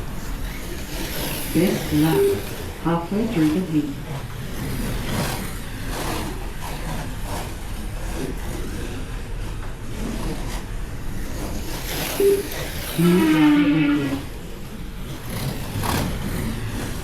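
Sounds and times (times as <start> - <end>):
slot car motors whirring: 0.0 - 17.0.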